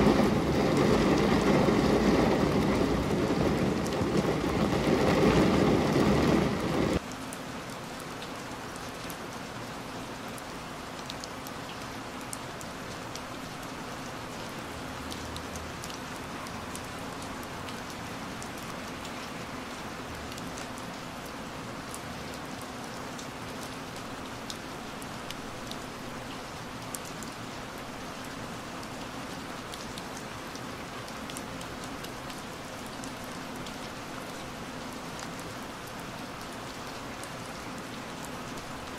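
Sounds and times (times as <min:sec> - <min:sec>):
deeper rush of rain: 0:00.0 - 0:38.9
rain on a window: 0:00.0 - 0:38.9
raindrop ticks: 0:00.1 - 0:09.5, 0:10.3 - 0:19.4, 0:20.1 - 0:27.5, 0:28.8 - 0:38.9.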